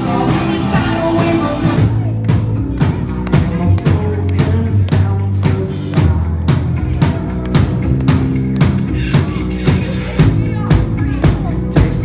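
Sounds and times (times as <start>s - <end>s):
drum kit beat: 0.0s - 12.0s
live rock band playing: 0.0s - 12.0s.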